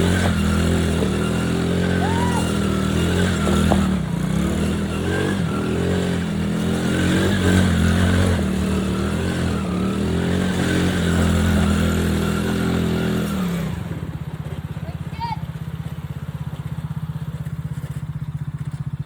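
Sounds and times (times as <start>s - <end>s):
small atv engine running: 0.0s - 19.0s.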